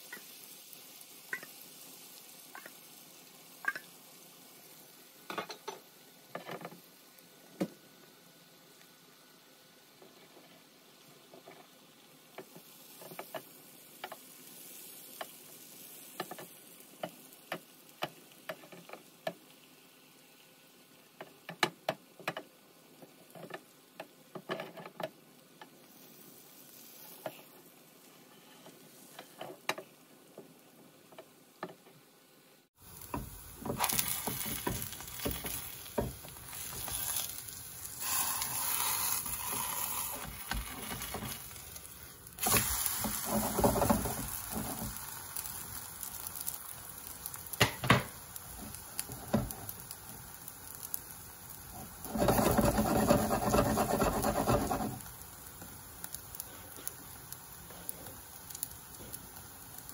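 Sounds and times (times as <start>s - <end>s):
batter sizzling in a pan: 0.0s - 59.9s.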